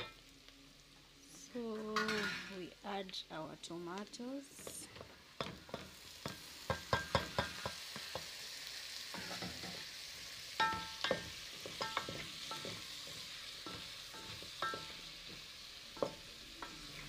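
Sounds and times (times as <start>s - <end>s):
tomatoes sizzling in pot: 0.0s - 17.0s.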